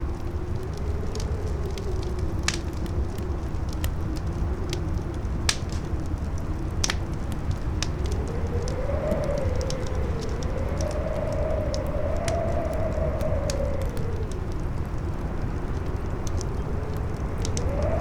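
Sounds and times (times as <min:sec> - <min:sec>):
campfire crackling: 0:00.0 - 0:18.0
fire pops: 0:00.0 - 0:18.0
howling wind whistle: 0:00.0 - 0:18.0
low wind rumble: 0:00.0 - 0:18.0.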